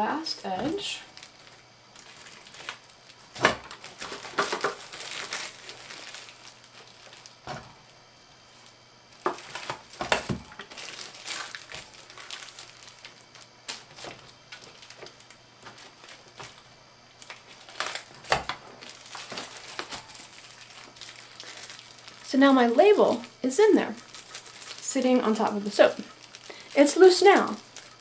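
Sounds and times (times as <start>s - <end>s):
plastic film crinkling: 0.4s - 28.0s.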